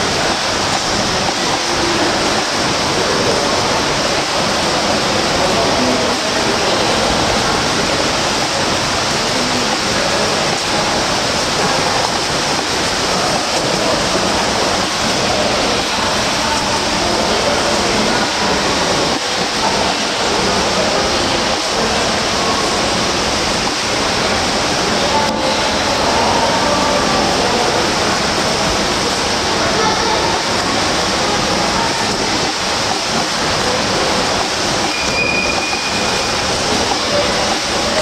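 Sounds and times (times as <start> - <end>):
water splashing from swimmers: 0.0 - 38.0.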